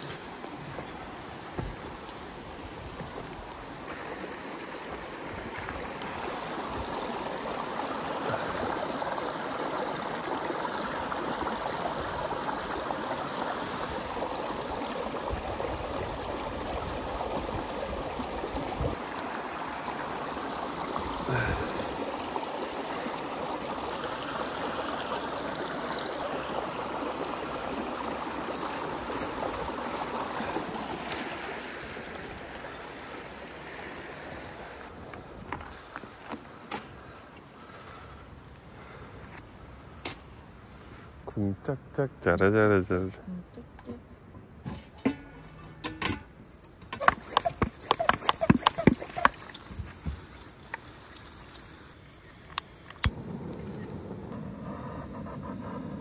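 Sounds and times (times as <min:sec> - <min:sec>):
creek trickling over rocks: 0:00.0 - 0:41.4, 0:45.2 - 0:56.0.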